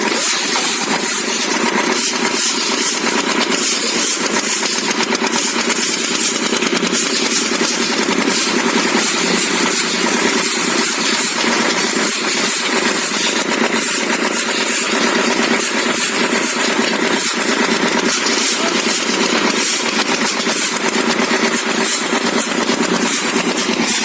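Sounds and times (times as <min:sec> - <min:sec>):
small motor buzzing: 0:00.0 - 0:24.0.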